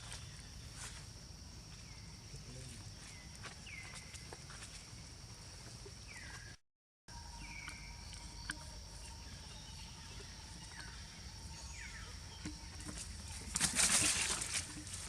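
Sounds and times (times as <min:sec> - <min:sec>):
insect drone: 0:00.0 - 0:06.2, 0:07.1 - 0:15.0.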